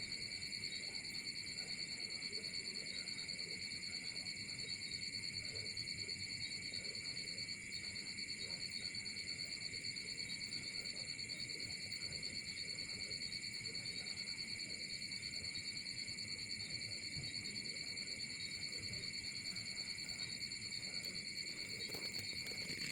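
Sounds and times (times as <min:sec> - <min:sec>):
insects chirping: 0:00.0 - 0:22.9.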